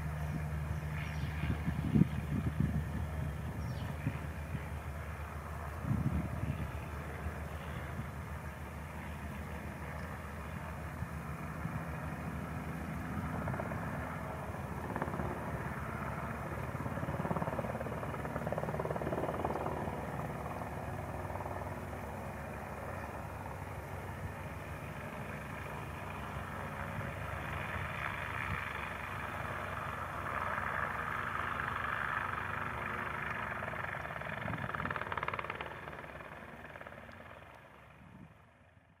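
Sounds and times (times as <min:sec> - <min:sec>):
distant helicopter rotor chop: 0:00.0 - 0:39.0.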